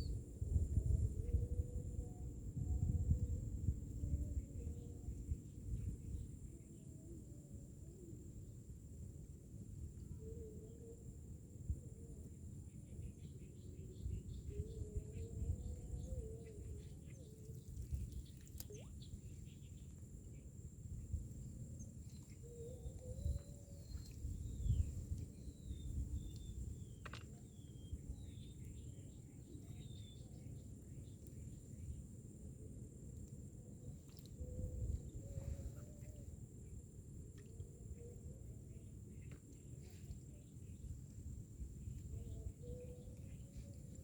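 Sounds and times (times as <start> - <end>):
wind rumble on microphone: 0.0 - 44.0.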